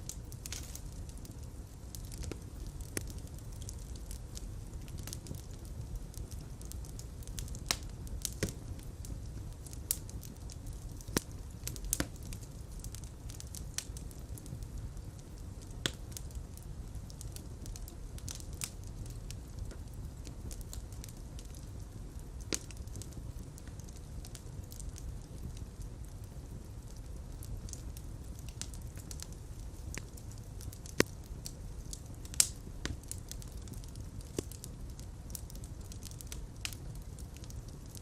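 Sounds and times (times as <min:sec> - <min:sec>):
fire crackling and popping: 0:00.0 - 0:38.0.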